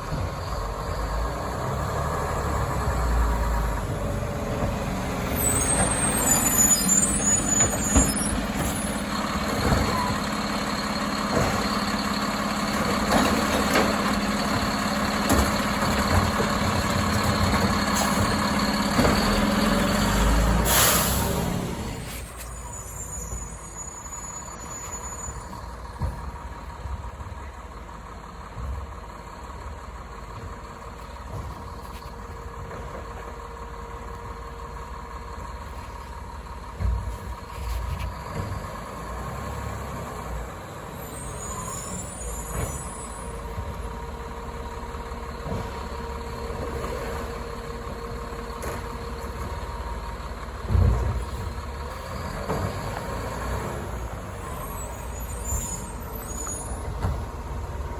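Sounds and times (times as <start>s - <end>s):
garbage truck engine humming: 0.0s - 57.9s.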